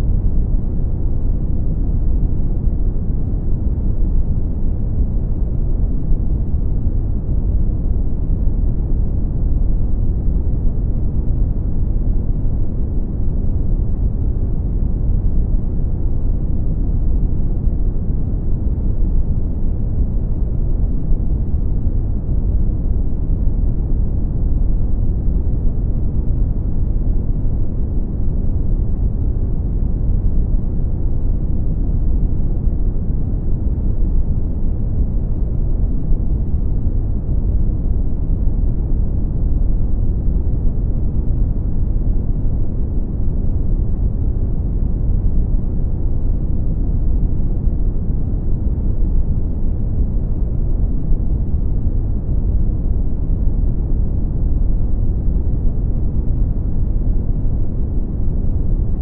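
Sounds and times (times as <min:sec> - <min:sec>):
deep rumbling brown noise: 0:00.0 - 0:59.0.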